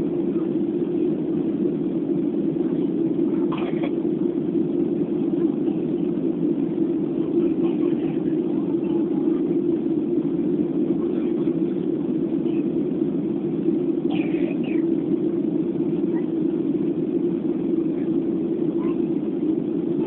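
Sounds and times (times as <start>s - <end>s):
airliner cabin drone: 0.0s - 20.0s.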